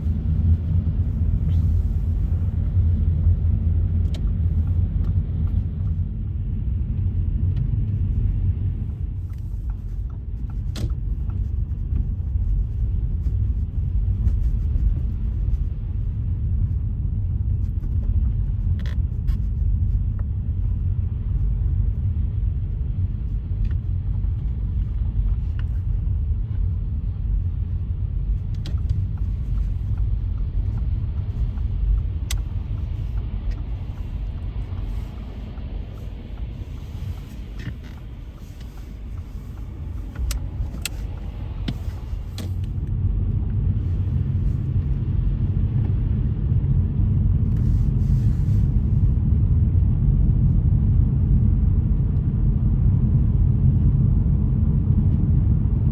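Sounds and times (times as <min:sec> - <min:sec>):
car driving on slushy road: 0:00.0 - 0:51.7.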